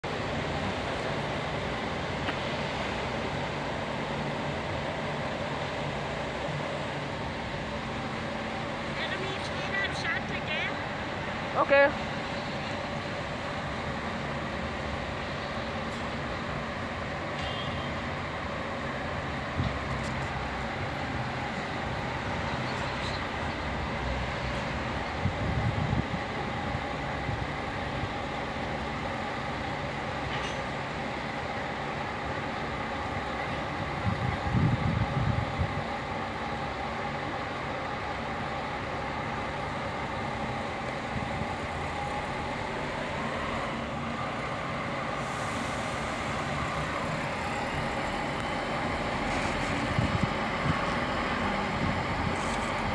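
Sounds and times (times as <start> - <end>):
diesel train engine idling: 0.0 - 52.9.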